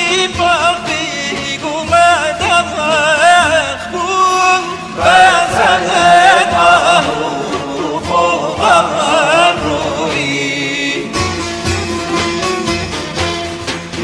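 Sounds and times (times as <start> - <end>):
man singing: 0.0 - 11.4
instrumental accompaniment: 0.0 - 14.0.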